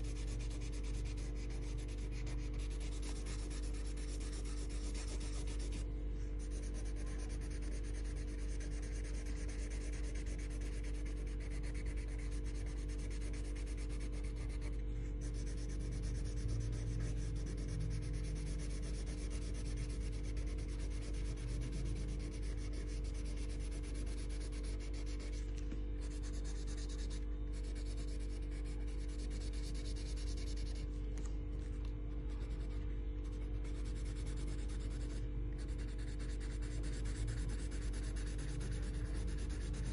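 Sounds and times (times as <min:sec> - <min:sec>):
colouring tool scratching on paper: 0:00.0 - 0:05.8, 0:06.4 - 0:30.8, 0:32.3 - 0:39.9
low hum: 0:00.0 - 0:39.9.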